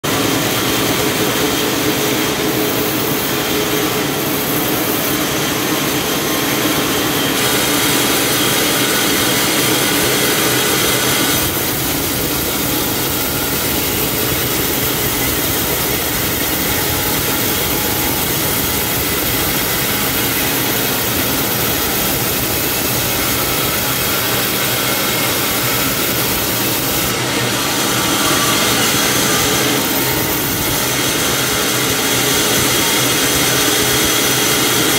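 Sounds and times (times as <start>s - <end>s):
band saw cutting log: 0.0s - 34.9s.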